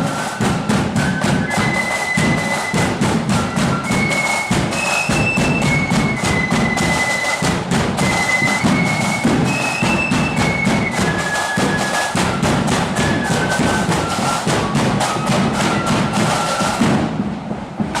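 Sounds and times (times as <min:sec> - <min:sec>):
flute melody: 0:00.0 - 0:17.2
snare drumming: 0:00.0 - 0:18.0.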